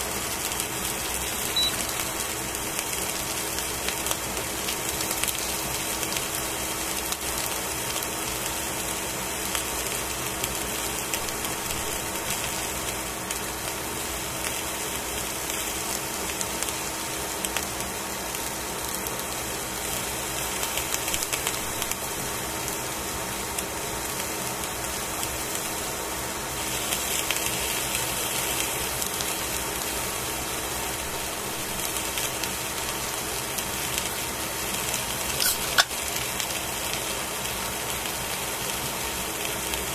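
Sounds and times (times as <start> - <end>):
fish sizzling in a hot pan: 0.0 - 39.9.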